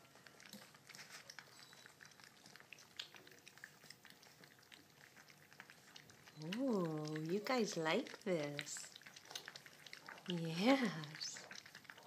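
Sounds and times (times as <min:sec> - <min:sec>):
puppies chewing and smacking: 0:00.0 - 0:12.0.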